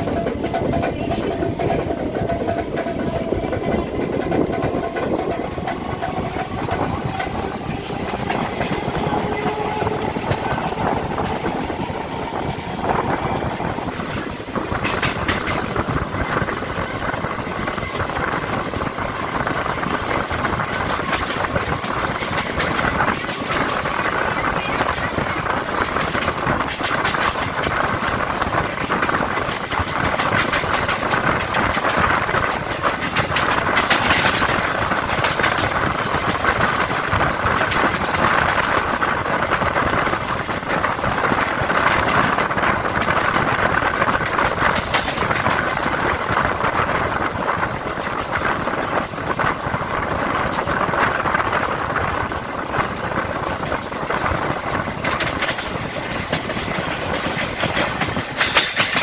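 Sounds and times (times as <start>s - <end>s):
train rushing on rails: 0.0s - 59.0s
wheels clicking over rail joints: 0.0s - 59.0s.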